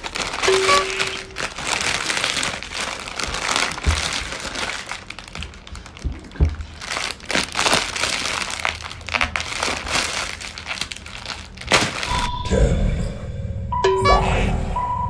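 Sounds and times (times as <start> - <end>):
plastic chip packets crinkling: 0.0 - 12.2.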